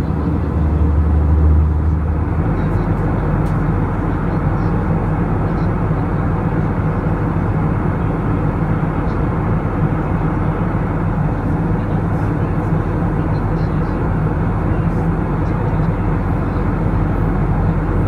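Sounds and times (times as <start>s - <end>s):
constant low hum: 0.0s - 18.0s
jet engine drone: 0.0s - 18.0s.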